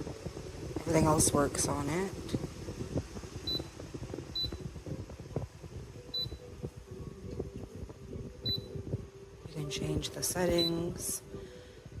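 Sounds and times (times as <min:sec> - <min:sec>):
faint low steady hum: 0:00.0 - 0:12.0.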